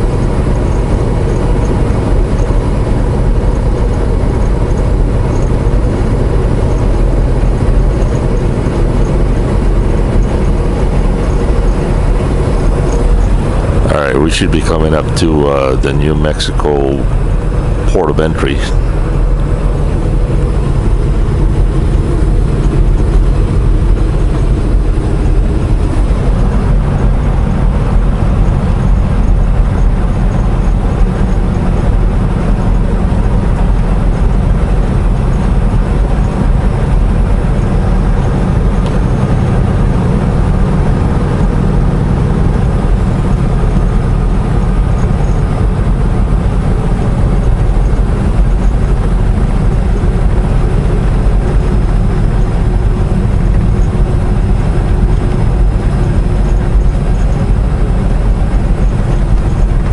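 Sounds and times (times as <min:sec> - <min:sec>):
road noise: 0:00.0 - 0:59.9
truck diesel engine drone: 0:00.0 - 0:59.9.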